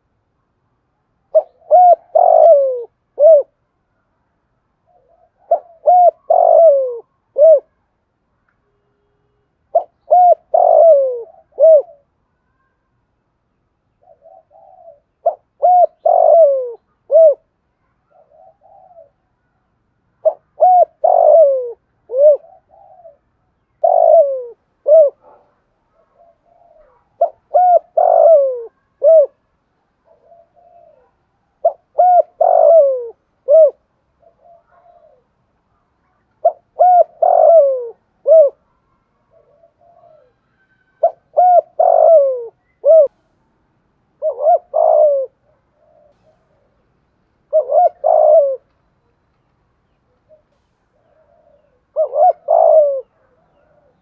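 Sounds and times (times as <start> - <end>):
dove cooing: 1.3 - 3.6, 4.9 - 7.8, 9.7 - 12.1, 14.0 - 19.3, 20.2 - 35.4, 36.0 - 43.2, 44.2 - 49.0, 49.8 - 54.0.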